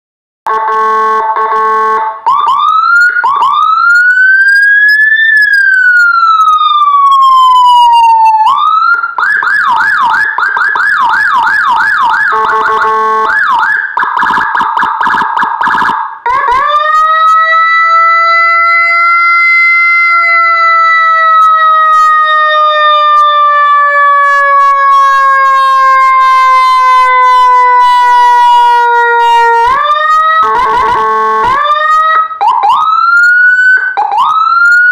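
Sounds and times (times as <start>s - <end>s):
electronic police siren: 0.5s - 34.9s.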